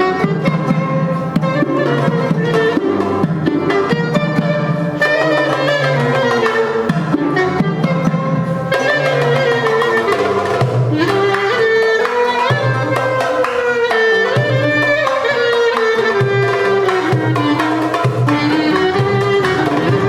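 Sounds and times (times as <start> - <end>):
hand-drum rhythm: 0.0 - 20.0
ornamented lead melody: 0.0 - 20.0.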